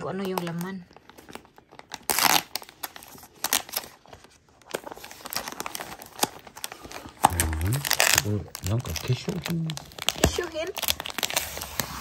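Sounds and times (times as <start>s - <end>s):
paper crinkling: 0.2s - 12.0s
wrapping paper ripping: 0.3s - 12.0s.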